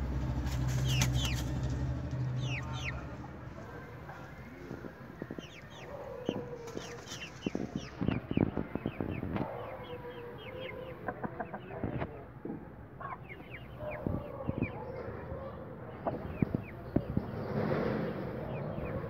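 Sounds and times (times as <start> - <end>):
hens clucking: 0.4 - 19.0
drawn-out low calls: 0.9 - 19.0.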